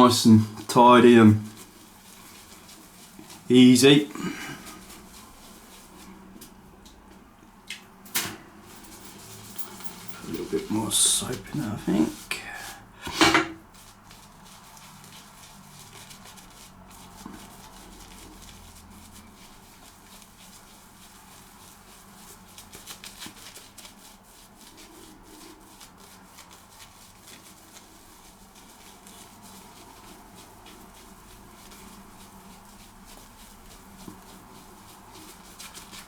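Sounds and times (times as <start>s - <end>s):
shaving brush swishing lather: 0.0s - 7.4s, 8.6s - 36.0s.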